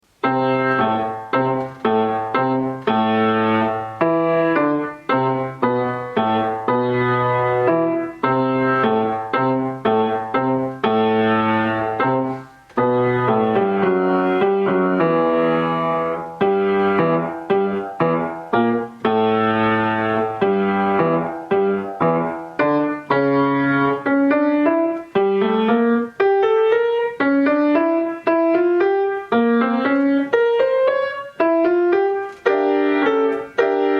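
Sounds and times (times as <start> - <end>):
solo piano playing slow piece: 0.0 - 33.9.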